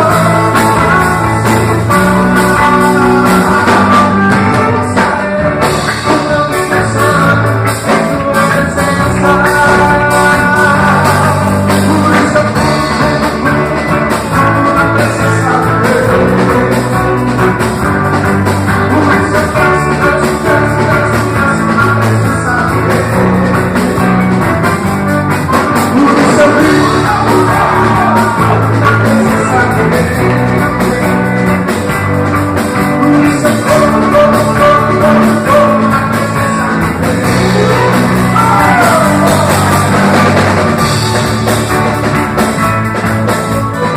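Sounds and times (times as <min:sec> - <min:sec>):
accordion worship music: 0:00.0 - 0:43.9.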